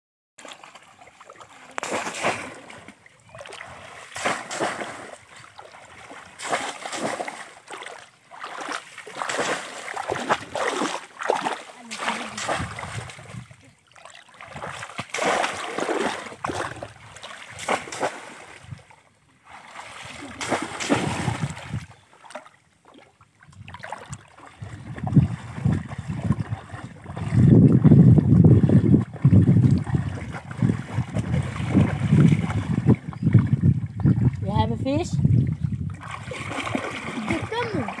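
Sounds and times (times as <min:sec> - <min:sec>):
legs wading through water: 0:00.4 - 0:38.0
muddy water splashing and sloshing: 0:00.4 - 0:38.0.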